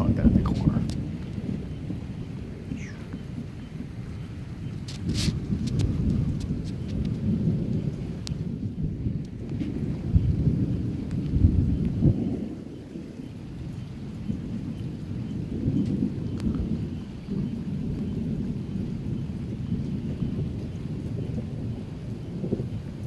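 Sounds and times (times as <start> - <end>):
thunder rumbling: 0.0 - 23.0.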